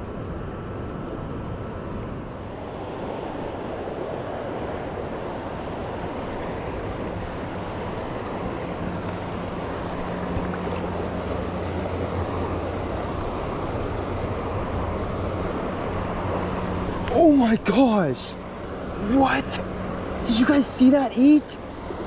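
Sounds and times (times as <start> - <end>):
river water rushing: 2.3 - 22.0.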